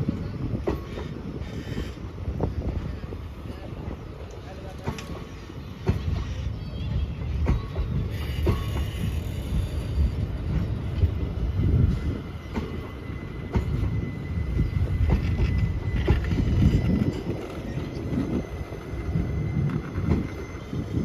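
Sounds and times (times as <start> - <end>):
train wheels rumbling on rails: 0.0 - 21.0
faint high wheel squeal: 0.1 - 3.7, 5.1 - 21.0
wheels clacking over rail joints: 0.1 - 20.9.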